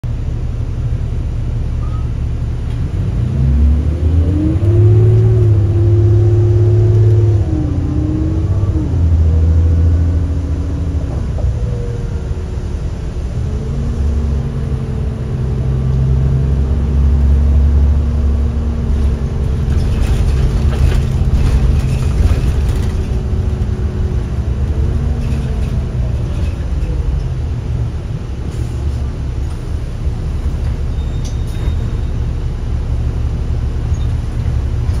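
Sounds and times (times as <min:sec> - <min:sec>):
bus diesel engine accelerating: 0:00.0 - 0:35.0.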